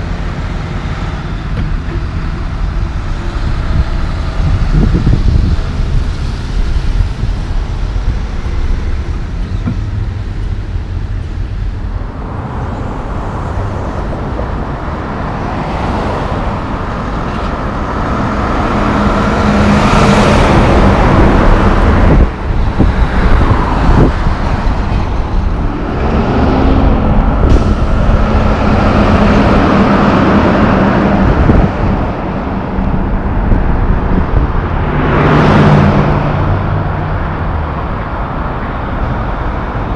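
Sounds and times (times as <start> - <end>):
steady engine hum: 0.0 - 39.9
traffic: 0.0 - 39.9
trucks driving past: 0.0 - 39.9
tyre noise on road: 0.0 - 39.9.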